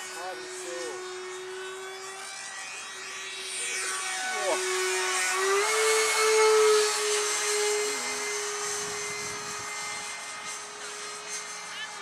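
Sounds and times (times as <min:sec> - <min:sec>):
electric ducted fan whine: 0:00.0 - 0:12.0.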